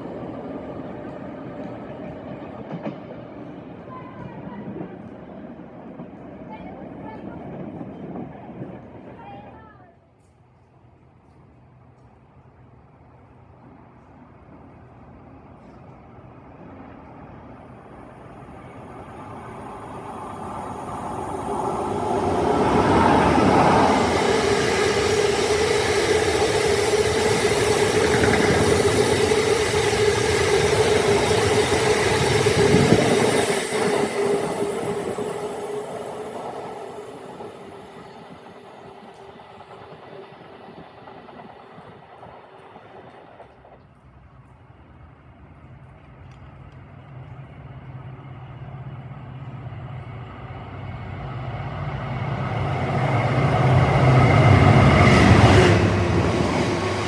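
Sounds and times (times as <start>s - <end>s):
steady train whine: 0.0s - 10.0s, 11.7s - 57.0s
train passing: 0.0s - 57.0s.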